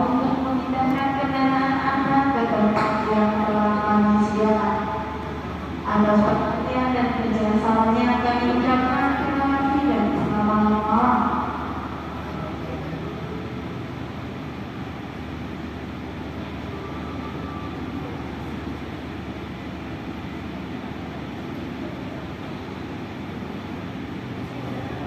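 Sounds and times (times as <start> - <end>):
ship engines rumbling: 0.0 - 25.0.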